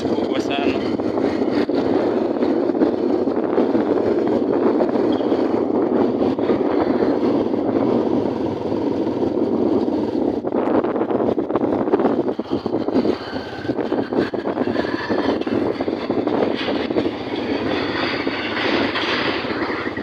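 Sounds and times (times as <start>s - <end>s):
motorbike engine running: 0.0s - 20.0s
wind and road noise: 0.0s - 20.0s.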